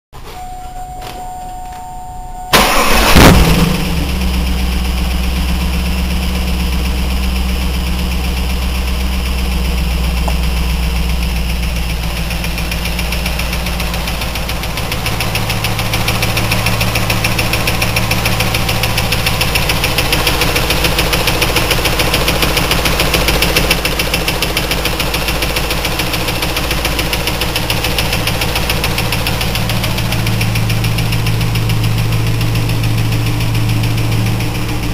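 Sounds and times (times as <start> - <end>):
car engine starting and idling: 0.2 - 34.9
fast engine ticking: 2.6 - 34.9.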